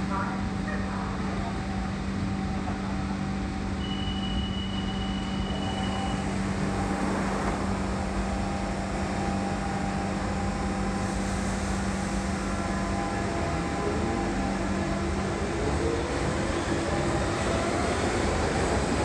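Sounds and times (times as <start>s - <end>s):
train equipment humming: 0.1s - 19.0s.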